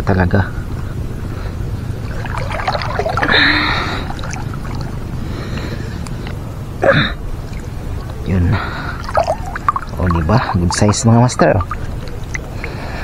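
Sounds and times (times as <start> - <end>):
steady low rumble: 0.0 - 13.0
water splashing and sloshing: 1.9 - 13.0.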